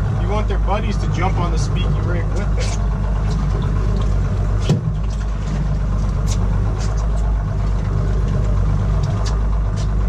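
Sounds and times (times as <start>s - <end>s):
boat engine idling: 0.0s - 10.0s
low hum: 0.0s - 10.0s.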